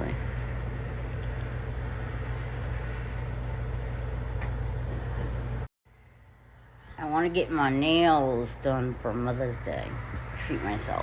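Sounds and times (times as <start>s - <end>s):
low hum with rushing noise: 0.0s - 11.0s.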